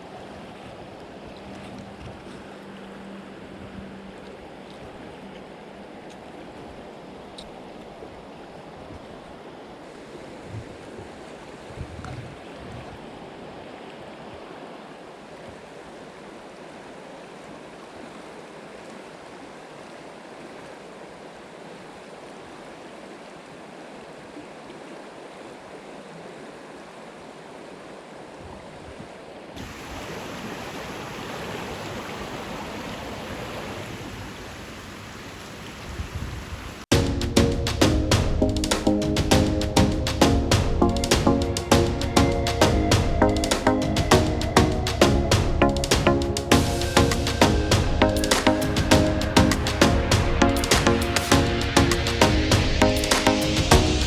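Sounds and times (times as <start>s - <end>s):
creek water over rocks: 0.0s - 54.0s.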